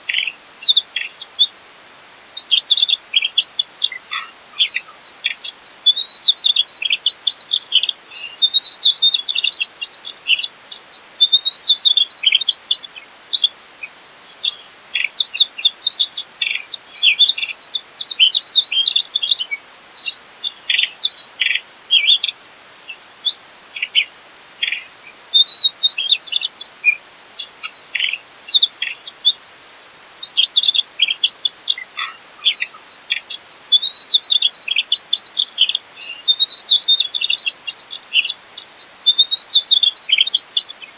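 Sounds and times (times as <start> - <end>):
bird singing high chirps and trills: 0.0 - 40.9.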